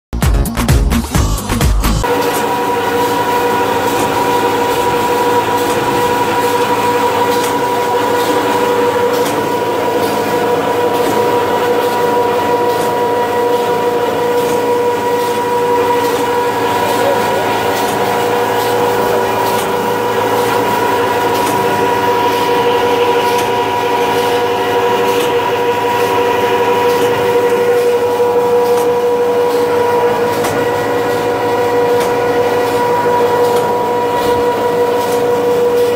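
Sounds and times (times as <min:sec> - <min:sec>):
machine motor whine: 0:01.3 - 0:35.9.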